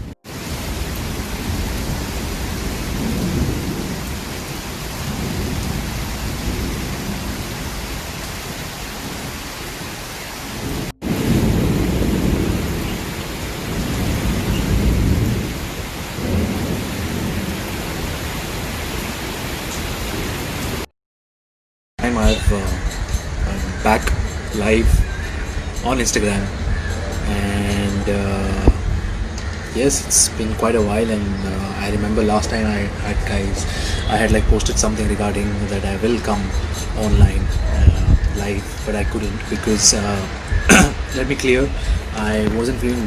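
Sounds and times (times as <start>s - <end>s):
heavy rain hissing: 0.0s - 20.9s, 22.0s - 43.0s
low wind rumbles: 0.0s - 20.9s, 22.0s - 43.0s.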